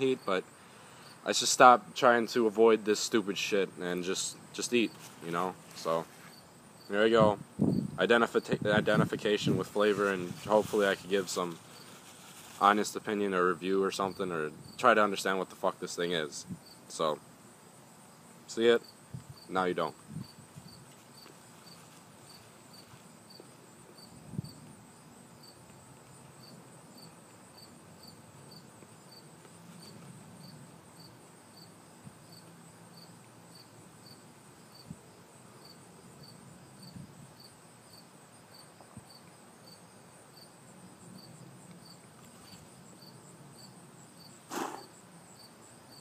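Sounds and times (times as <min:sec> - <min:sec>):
cricket chirping: 0:00.0 - 0:46.0.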